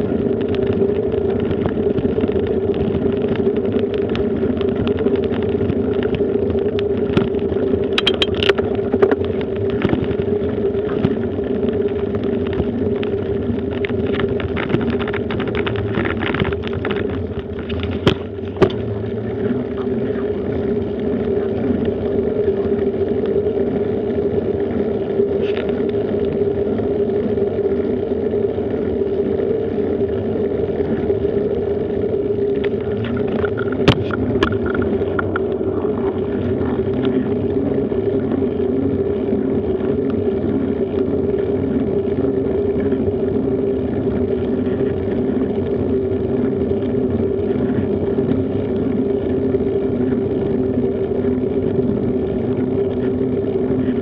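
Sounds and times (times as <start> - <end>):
tyre rumble: 0.0 - 23.8, 32.1 - 54.0
constant drone: 0.0 - 54.0
wind: 0.0 - 54.0.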